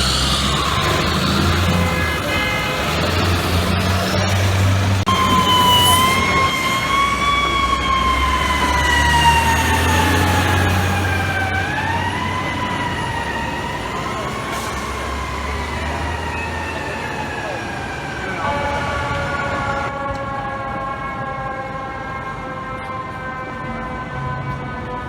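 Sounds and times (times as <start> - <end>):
fire truck siren wailing: 0.0 - 25.0
low rumble of truck and traffic: 0.0 - 25.0.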